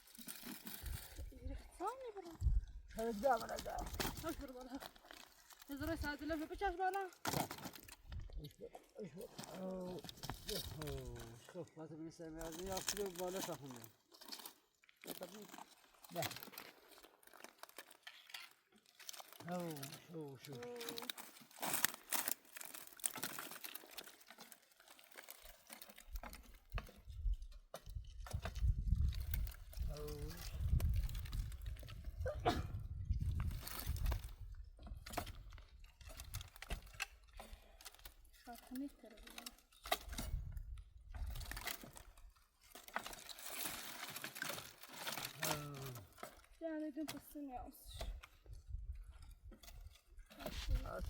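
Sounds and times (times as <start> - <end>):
brushwood crackling and snapping: 0.0 - 11.6, 12.3 - 51.0.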